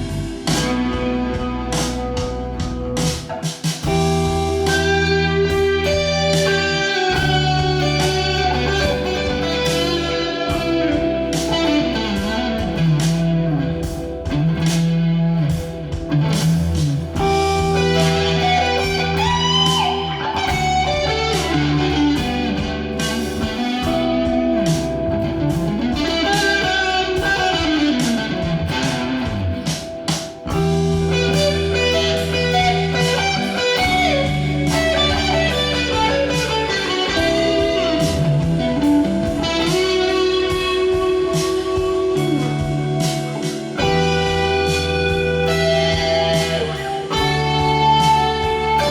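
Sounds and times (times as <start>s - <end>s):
bending lead guitar notes: 0.0s - 48.9s
instrumental rock music: 0.0s - 48.9s.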